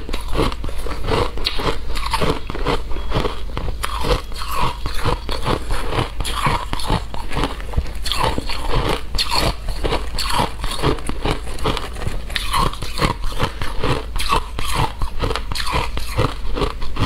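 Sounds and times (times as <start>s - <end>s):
crunching of shaved ice: 0.0s - 17.0s.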